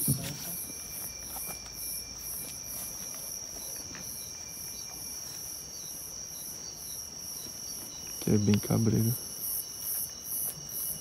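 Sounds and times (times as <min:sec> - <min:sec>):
insect high trill: 0:00.0 - 0:11.0
insect pulsing chirp: 0:00.0 - 0:11.0.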